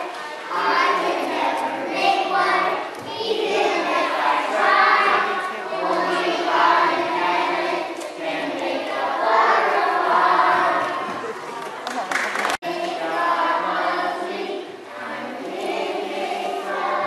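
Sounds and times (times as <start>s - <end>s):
children singing in unison: 0.0s - 11.4s, 12.6s - 17.0s.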